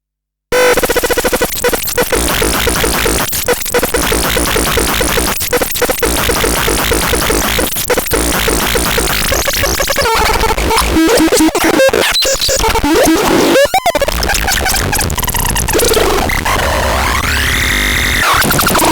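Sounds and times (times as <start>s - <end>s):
harsh synthesizer drone: 0.6s - 18.9s.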